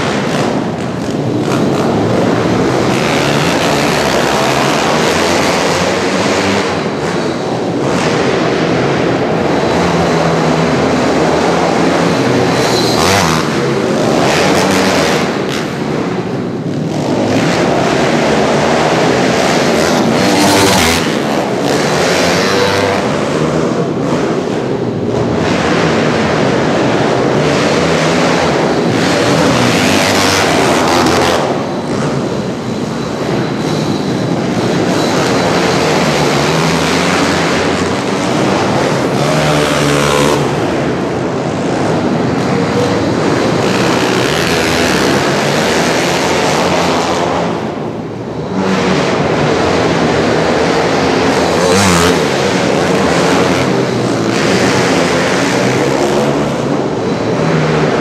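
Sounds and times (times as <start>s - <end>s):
motorbike engines revving: 0.0s - 58.0s.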